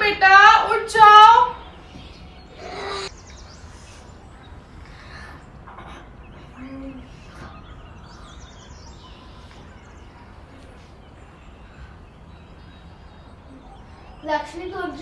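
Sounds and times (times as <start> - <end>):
low background hum: 0.0 - 15.0
faint bird chirps: 1.4 - 15.0.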